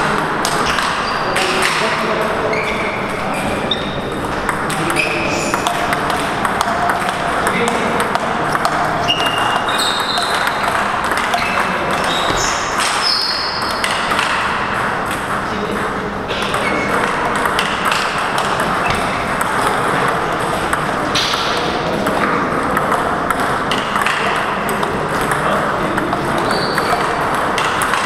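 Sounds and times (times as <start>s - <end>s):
hall background noise: 0.0s - 28.0s
table tennis ball pings: 2.6s - 28.0s.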